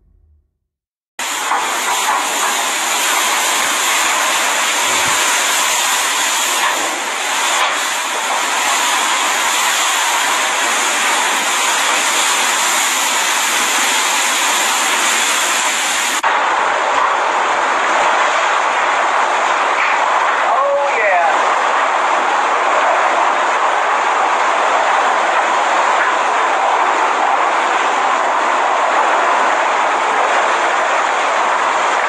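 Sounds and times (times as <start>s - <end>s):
hurricane wind and rain: 1.2s - 32.0s.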